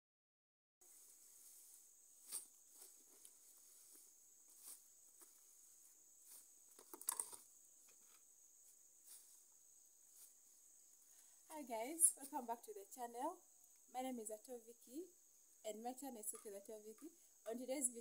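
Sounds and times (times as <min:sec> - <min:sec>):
faint high-pitched whine: 0:00.8 - 0:18.0.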